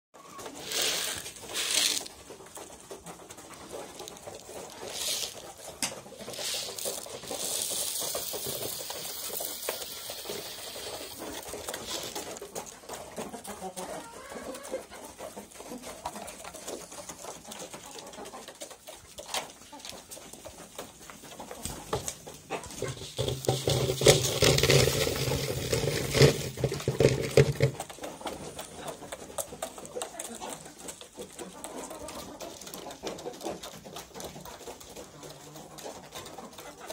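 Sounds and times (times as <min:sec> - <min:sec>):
feed pellets rattling in bucket: 0:00.2 - 0:19.3, 0:21.9 - 0:36.5
hens clucking softly: 0:00.2 - 0:36.9
hens pecking beak taps: 0:00.2 - 0:36.9.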